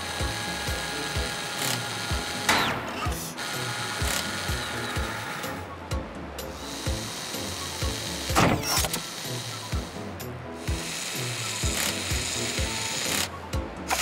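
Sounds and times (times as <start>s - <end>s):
mechanical whirring: 0.0s - 5.7s, 6.5s - 14.0s
background music with steady beat: 0.0s - 14.0s.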